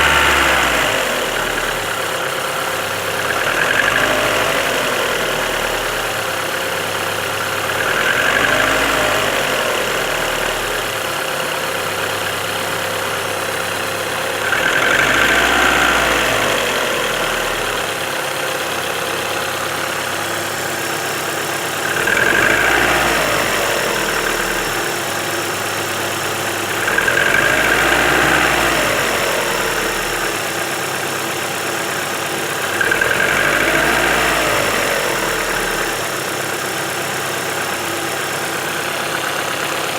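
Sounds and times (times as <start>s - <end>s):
car engine idling and revving: 0.0s - 39.9s
engine knock: 0.0s - 39.9s.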